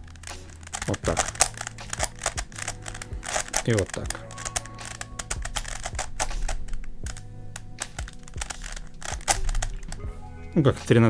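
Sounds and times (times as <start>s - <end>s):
plastic puzzle clicking and clattering: 0.0s - 10.0s.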